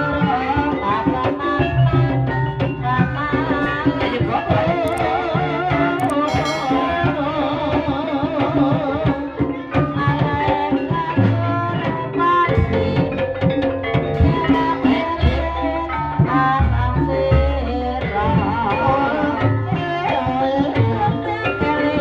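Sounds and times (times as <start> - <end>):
fast hand drum patterns: 0.0 - 22.0
gamelan metal keyed instruments: 0.0 - 22.0.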